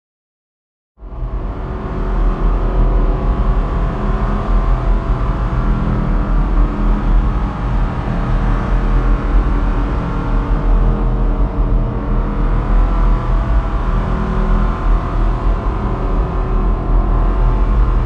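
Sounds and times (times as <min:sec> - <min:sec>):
heavy low rumble: 0:01.0 - 0:18.0.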